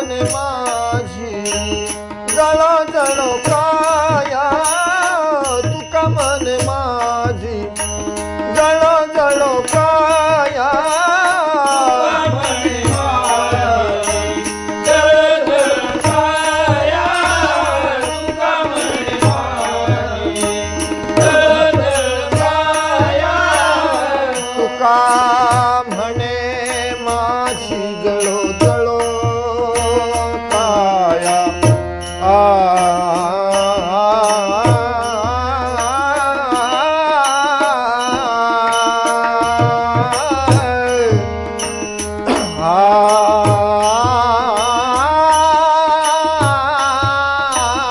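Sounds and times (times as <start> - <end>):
harmonium: 0.0 - 47.9
tabla: 0.0 - 47.9.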